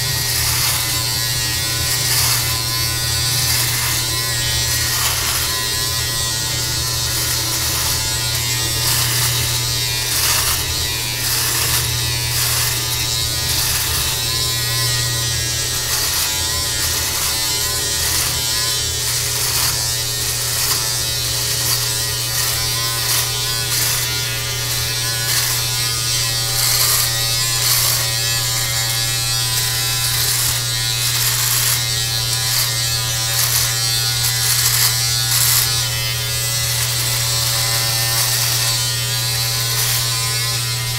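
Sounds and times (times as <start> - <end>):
electric beard trimmer buzzing: 0.0 - 40.9
trimmer rasping through hair: 0.0 - 40.9.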